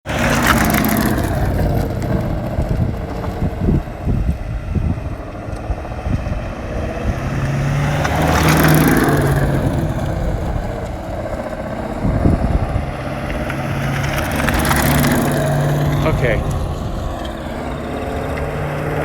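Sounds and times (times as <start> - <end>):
car engine: 0.0 - 19.0
road noise: 0.0 - 19.0.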